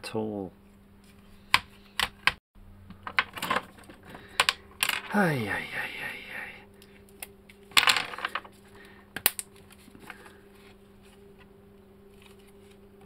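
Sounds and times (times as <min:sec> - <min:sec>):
steady low hum: 0:00.5 - 0:13.0.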